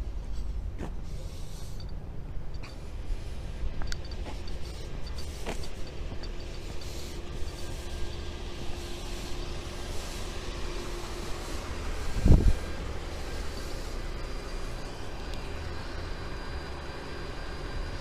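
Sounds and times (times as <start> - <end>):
faint steady hum: 0.0 - 18.0
street rumble: 0.0 - 18.0.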